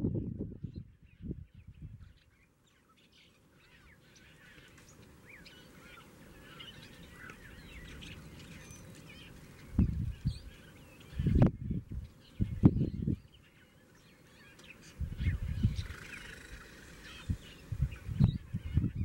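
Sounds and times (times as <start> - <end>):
wild birds chirping and squawking: 0.3 - 19.0
faint outdoor hiss: 0.5 - 18.8.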